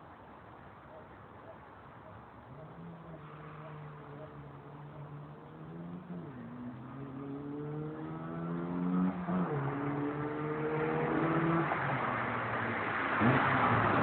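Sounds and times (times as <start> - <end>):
car engine accelerating: 2.8 - 14.0.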